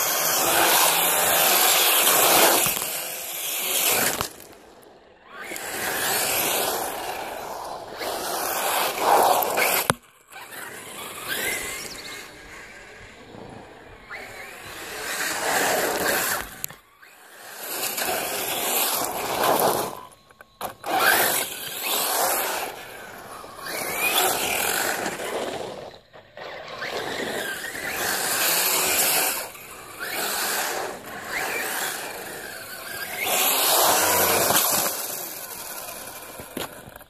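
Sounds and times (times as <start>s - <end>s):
electric motor whining: 5.4s - 37.0s.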